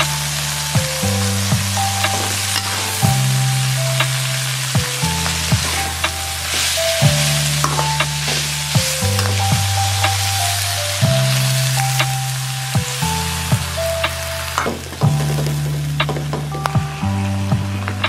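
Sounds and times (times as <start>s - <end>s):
stir-fry sizzling in a wok: 0.0s - 17.5s
background music: 0.0s - 18.0s.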